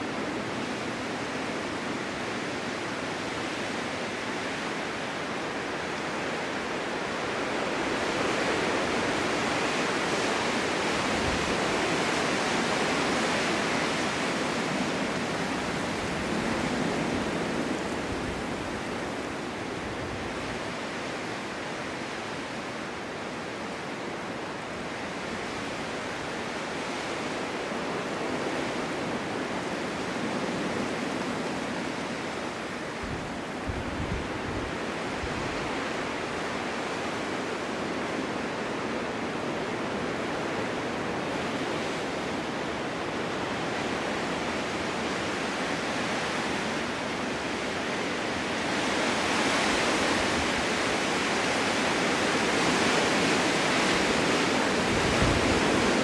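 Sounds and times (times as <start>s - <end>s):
snowstorm wind blowing: 0.0s - 56.0s.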